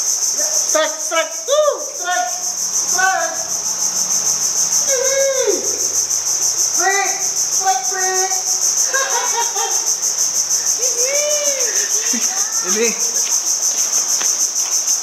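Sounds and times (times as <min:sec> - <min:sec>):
pulsing insect chorus: 0:00.0 - 0:15.0.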